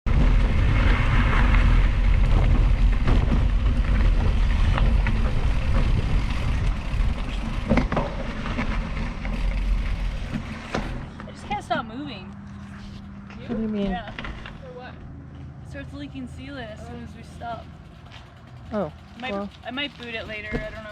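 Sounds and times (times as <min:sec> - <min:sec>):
bike tires rolling on gravel: 0:00.1 - 0:11.8, 0:12.5 - 0:14.9, 0:16.0 - 0:20.9.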